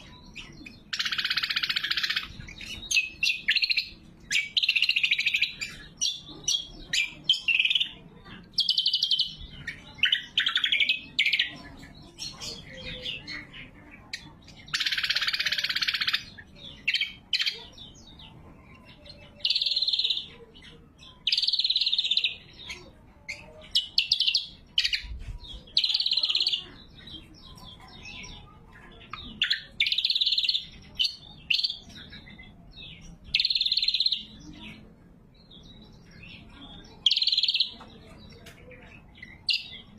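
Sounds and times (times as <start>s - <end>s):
bird singing sharp phrases: 0.0s - 39.9s.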